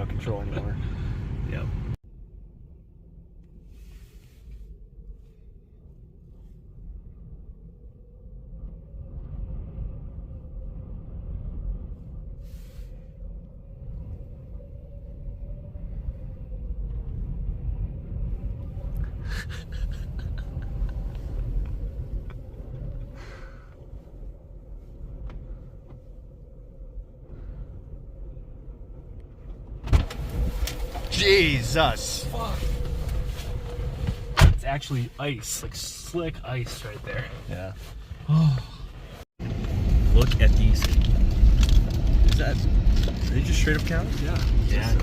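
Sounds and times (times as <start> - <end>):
in-cabin road and engine rumble: 0.0 - 45.0.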